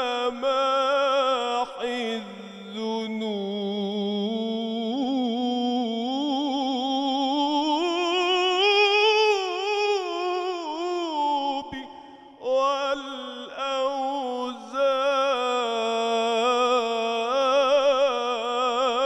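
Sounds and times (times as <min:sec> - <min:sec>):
man singing religious chant: 0:00.0 - 0:19.0.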